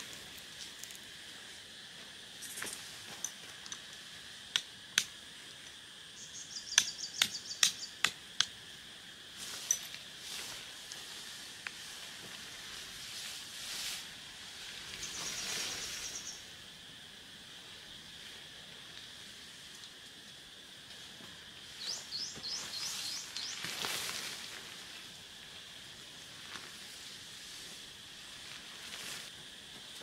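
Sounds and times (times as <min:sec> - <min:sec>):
high outdoor background noise: 0:00.0 - 0:30.0.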